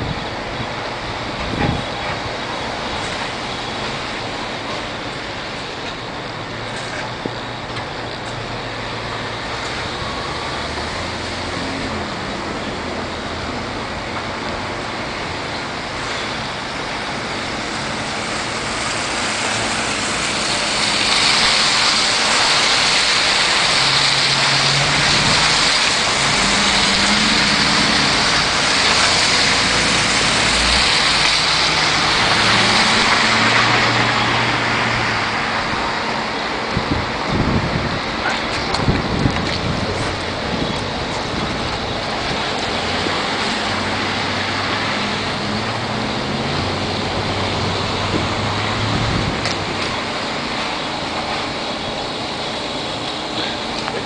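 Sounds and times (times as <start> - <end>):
street traffic road noise: 0.0 - 54.0.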